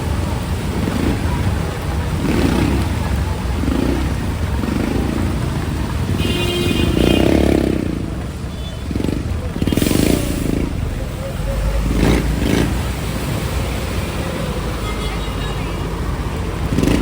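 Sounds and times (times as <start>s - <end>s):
motorcycle and vehicle engines: 0.0s - 17.0s.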